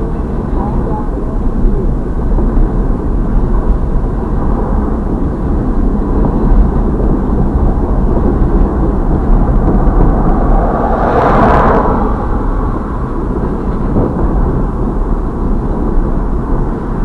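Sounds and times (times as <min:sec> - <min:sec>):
muffled freight train rumble: 0:00.0 - 0:17.0.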